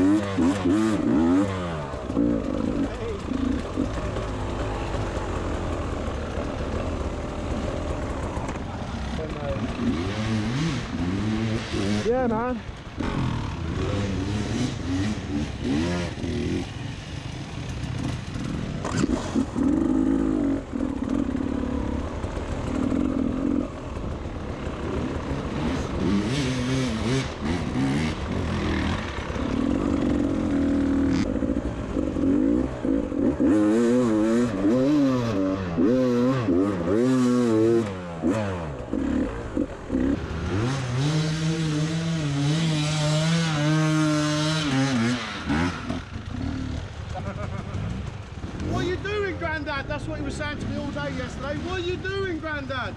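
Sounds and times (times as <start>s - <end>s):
motorcycle engine revving: 0.0s - 52.8s.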